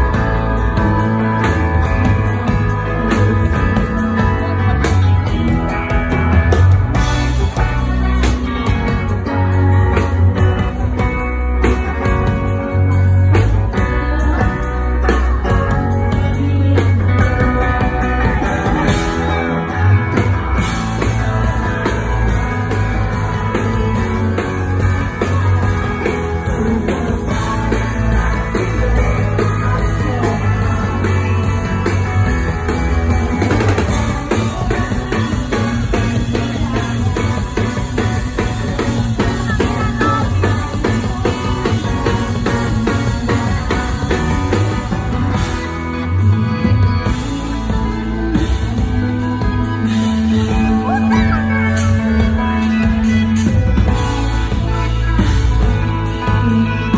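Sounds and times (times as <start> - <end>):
rock band playing: 0.0 - 56.9
woman singing: 6.9 - 46.1, 46.9 - 56.9.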